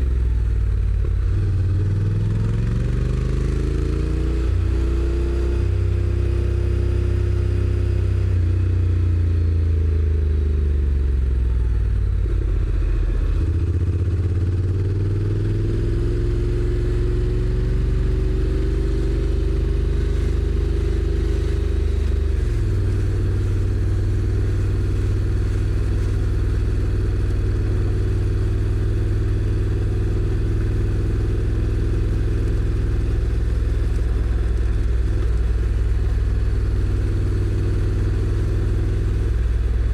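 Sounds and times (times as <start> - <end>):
motorcycle engine revving: 0.0 - 8.0, 11.0 - 39.9.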